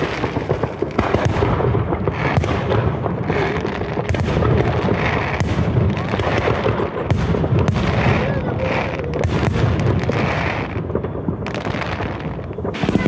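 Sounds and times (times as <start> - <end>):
fireworks bangs and pops: 0.0 - 13.0
sharp fireworks cracks: 0.0 - 13.0.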